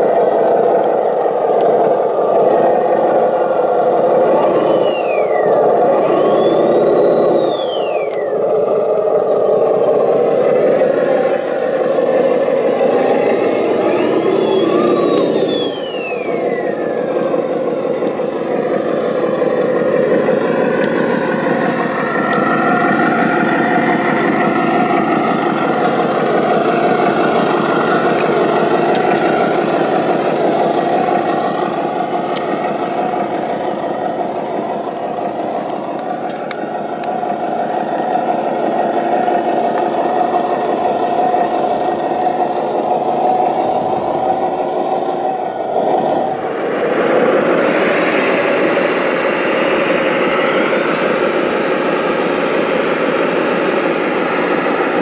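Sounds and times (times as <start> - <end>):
model vehicle motor and gears: 0.0 - 55.0
motor whine: 0.0 - 55.0.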